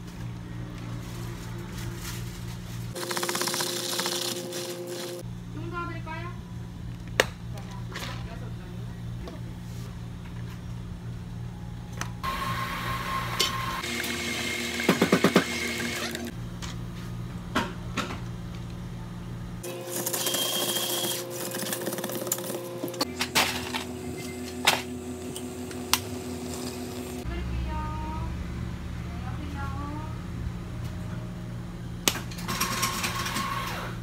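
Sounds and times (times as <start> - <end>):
cafe equipment humming: 0.0 - 34.0.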